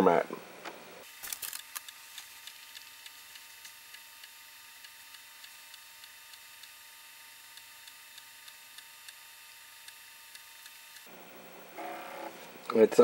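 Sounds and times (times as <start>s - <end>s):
disk drive whir: 0.5s - 13.0s.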